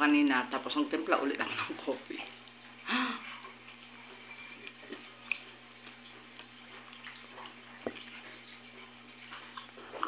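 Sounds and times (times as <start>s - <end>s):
faint chewing: 1.4s - 10.0s.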